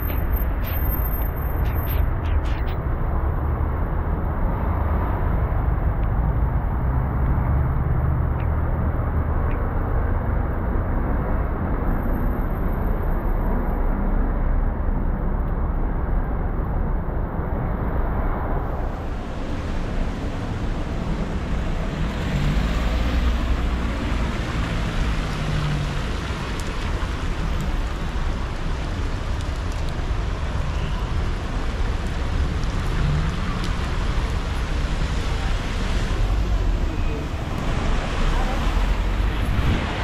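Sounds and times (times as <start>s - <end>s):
traffic on wet street: 0.0s - 40.0s.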